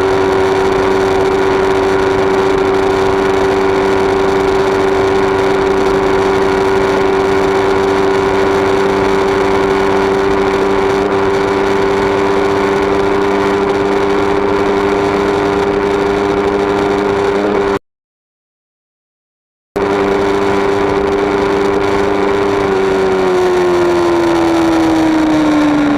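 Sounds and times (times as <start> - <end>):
motorcycle engine running: 0.0 - 17.8, 19.8 - 25.9.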